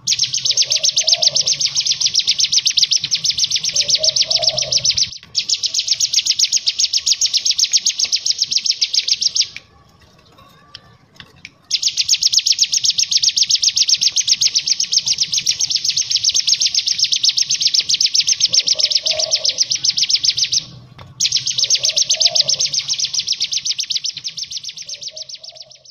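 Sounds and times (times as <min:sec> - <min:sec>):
bird singing fast trill: 0:00.0 - 0:09.6, 0:11.7 - 0:25.9.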